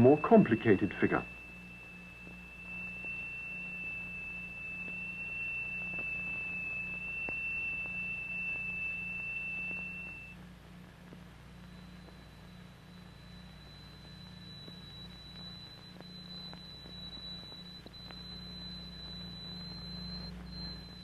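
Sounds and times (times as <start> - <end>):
fainter higher tone: 0.0 - 10.4, 11.6 - 21.0
high pure tone: 0.0 - 21.0.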